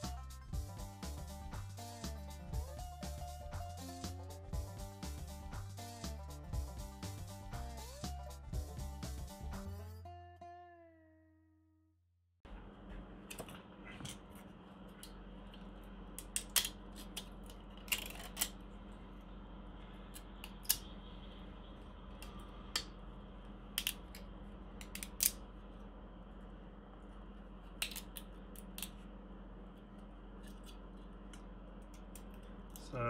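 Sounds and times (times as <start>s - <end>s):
steady low hum: 0.0s - 10.0s, 12.5s - 33.0s.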